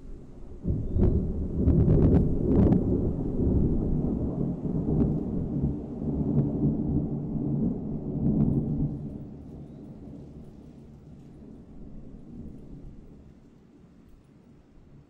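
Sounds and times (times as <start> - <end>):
rolling thunder: 0.0 - 13.5.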